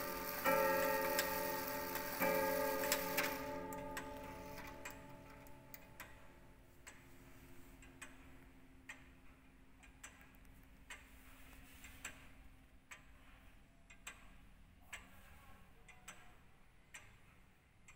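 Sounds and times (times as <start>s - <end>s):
pendulum clock ticking: 0.0s - 17.9s.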